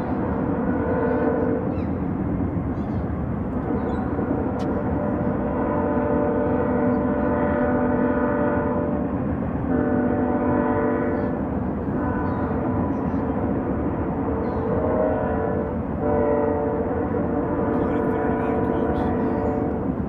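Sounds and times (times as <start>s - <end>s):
distant locomotive horn: 0.0s - 1.8s, 3.5s - 20.0s.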